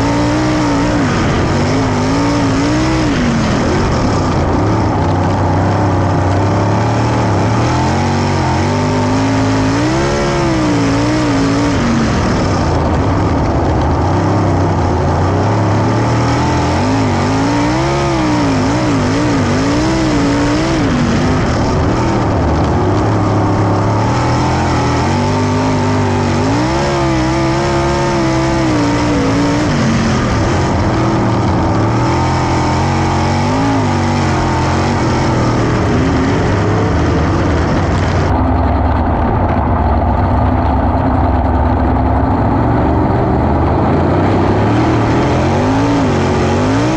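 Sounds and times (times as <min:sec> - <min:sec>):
racing car engines: 0:00.0 - 0:46.9.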